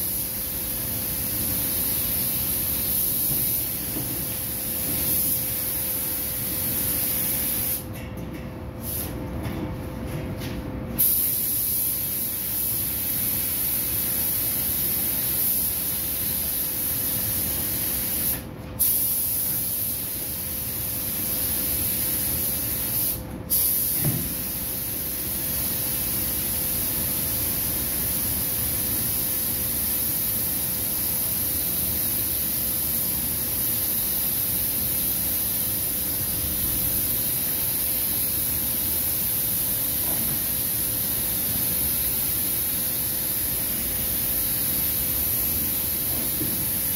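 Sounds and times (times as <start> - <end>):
paint spray gun hissing: 0.0 - 3.8, 4.4 - 7.8, 11.0 - 26.5, 29.0 - 46.9.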